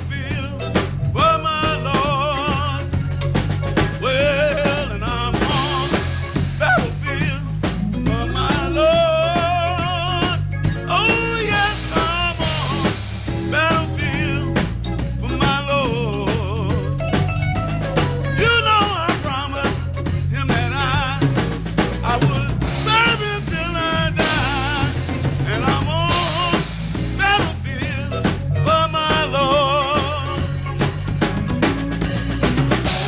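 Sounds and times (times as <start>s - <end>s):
person singing with vibrato: 0.0s - 3.1s, 3.8s - 17.0s, 18.4s - 30.8s
drum kit snare and rimshots: 0.0s - 33.0s
steady bass line: 0.0s - 33.0s.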